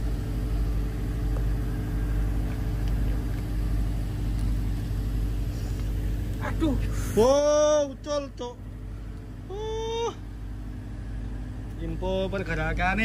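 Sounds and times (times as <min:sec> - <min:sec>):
ship engine idling: 0:00.0 - 0:13.0.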